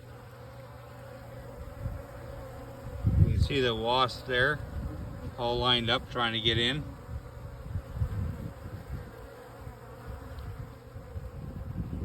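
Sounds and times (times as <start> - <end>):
bees and wasps buzzing: 0.0 - 12.0.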